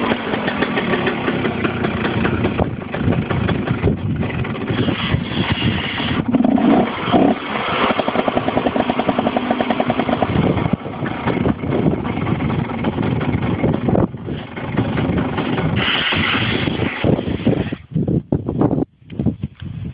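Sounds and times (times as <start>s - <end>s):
two-stroke motorcycle engine running: 0.0s - 17.8s.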